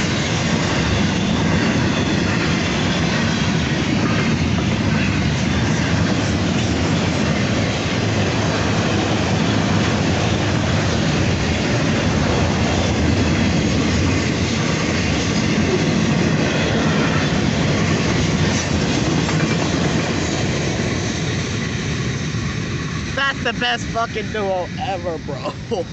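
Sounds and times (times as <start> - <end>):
clickety-clack over rail joints: 0.0 - 21.8
train wheels rumbling on rail: 0.0 - 24.0.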